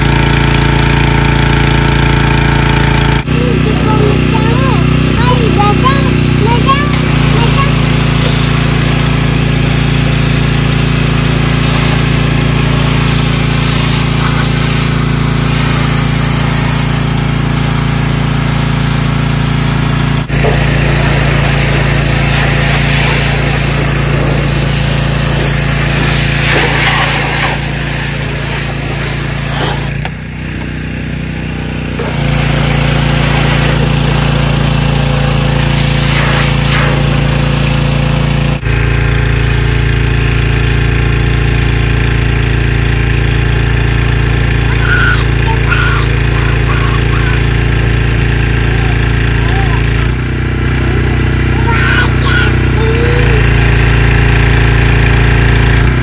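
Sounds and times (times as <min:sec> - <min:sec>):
pressure washer engine running: 0:00.0 - 0:56.0
water jet hissing: 0:06.6 - 0:30.0, 0:32.0 - 0:56.0.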